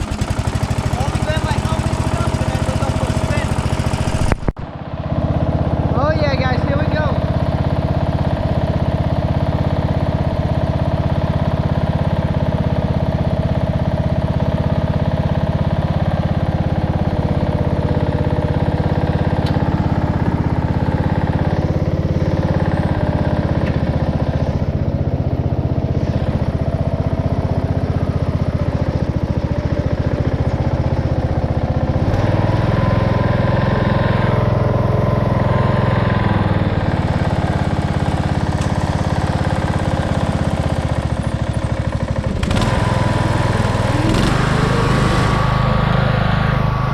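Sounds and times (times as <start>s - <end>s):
lawnmower engine running: 0.0s - 46.9s.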